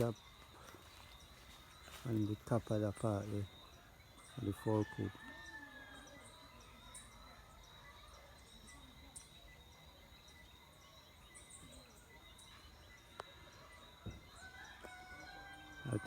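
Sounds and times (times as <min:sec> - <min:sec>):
faint bird chirps: 0:00.0 - 0:16.0
faint high insect tone: 0:00.0 - 0:16.0.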